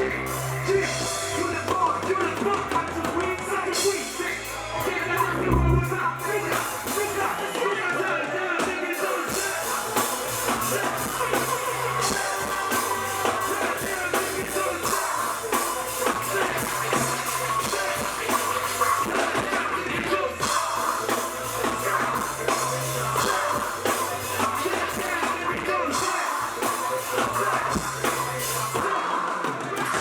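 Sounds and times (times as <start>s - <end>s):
music with drums and bass: 0.0s - 7.6s, 9.0s - 29.0s.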